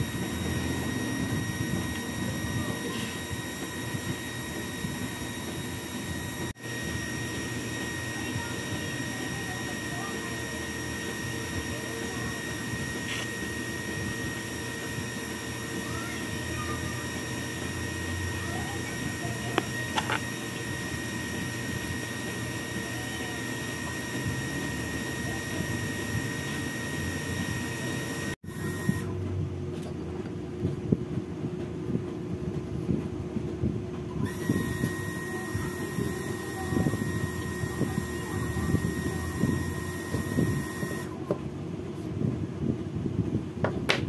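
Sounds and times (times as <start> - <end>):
machine whine and hum: 0.0 - 44.0.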